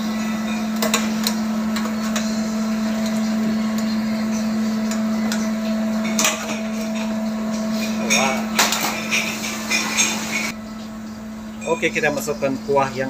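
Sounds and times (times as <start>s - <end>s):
kitchen equipment hum: 0.0s - 13.0s.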